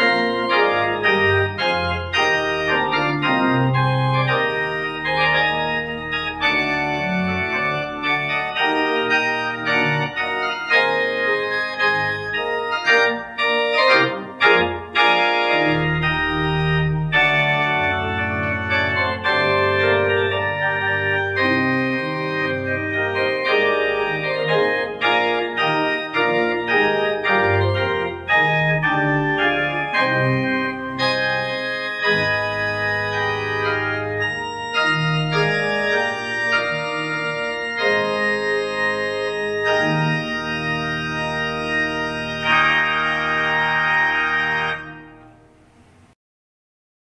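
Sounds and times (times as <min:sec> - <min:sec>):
church organ playing chords: 0:00.0 - 0:46.2.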